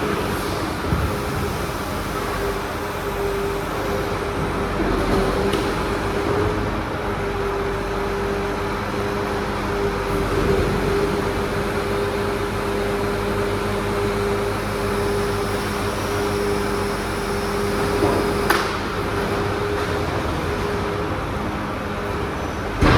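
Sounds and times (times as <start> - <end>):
crane truck whine: 0.0 - 22.9.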